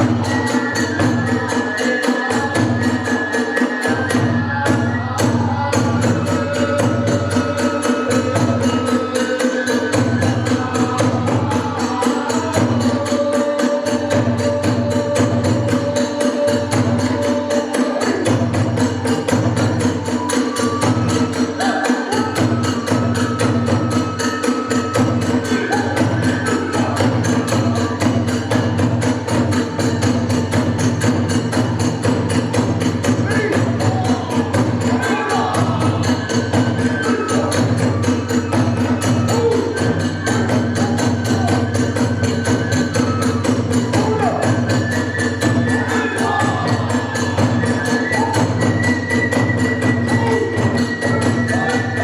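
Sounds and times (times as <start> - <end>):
flute long notes: 0.0 - 30.2, 33.2 - 52.0
drums and hand cymbals: 0.0 - 52.0.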